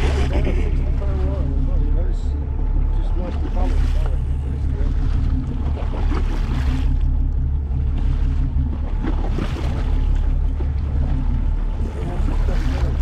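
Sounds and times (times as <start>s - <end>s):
boat engine running: 0.0s - 13.0s
sea wash: 0.0s - 13.0s.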